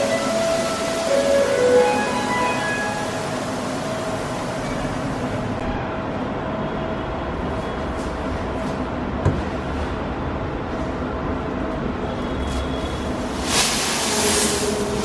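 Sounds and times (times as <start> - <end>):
steady indoor rumbling: 0.0 - 15.0.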